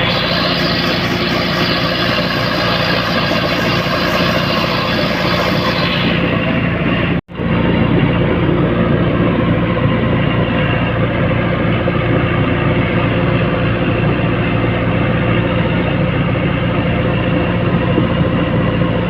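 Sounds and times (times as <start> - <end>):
bulldozer diesel engine droning: 0.0 - 19.0.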